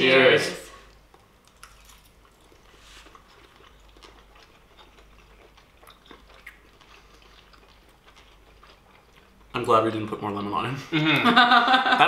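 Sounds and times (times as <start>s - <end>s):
people chewing: 0.0s - 11.2s.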